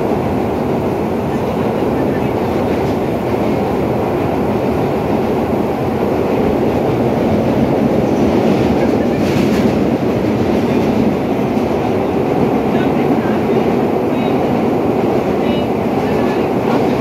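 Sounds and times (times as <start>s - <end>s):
subway car wheels rumbling: 0.0s - 17.0s.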